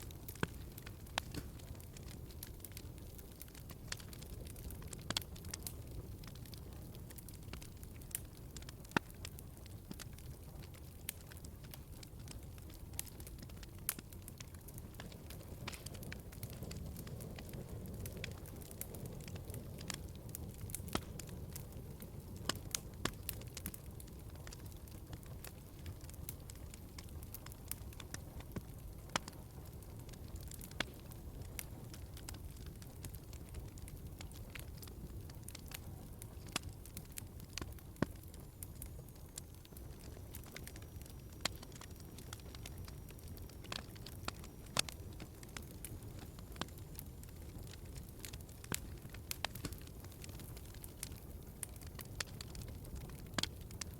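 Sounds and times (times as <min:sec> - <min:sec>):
log fire crackling: 0:00.0 - 0:53.9.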